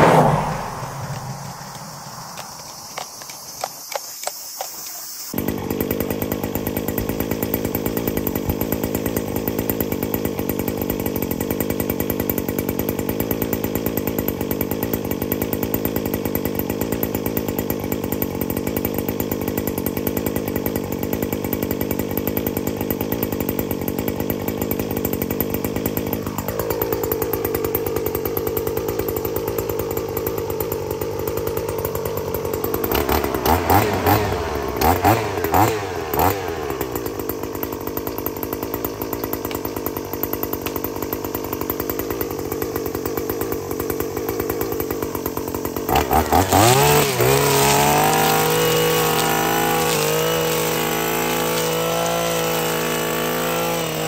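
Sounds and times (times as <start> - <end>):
brush cutter cutting grass: 0.0 - 54.0.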